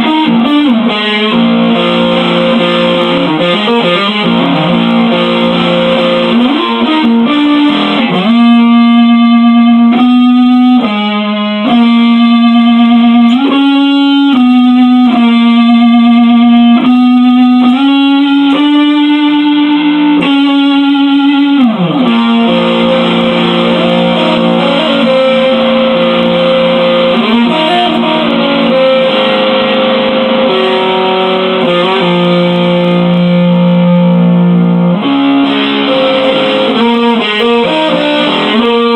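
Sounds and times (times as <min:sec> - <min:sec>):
electric guitar notes: 0:00.0 - 0:38.9.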